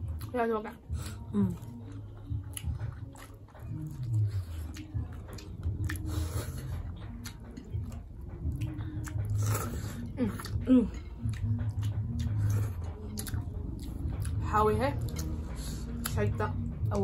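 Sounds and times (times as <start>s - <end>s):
people chewing and smacking: 0.0s - 17.0s.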